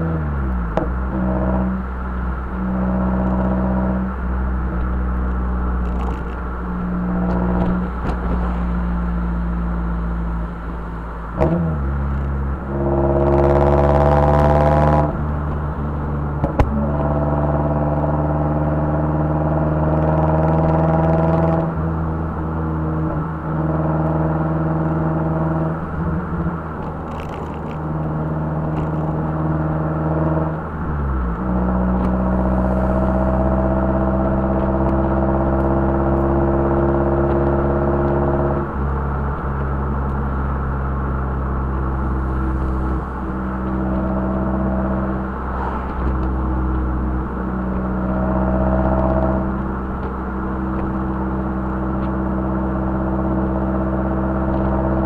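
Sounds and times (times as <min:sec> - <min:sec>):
car engine cruising: 0:00.0 - 0:55.0.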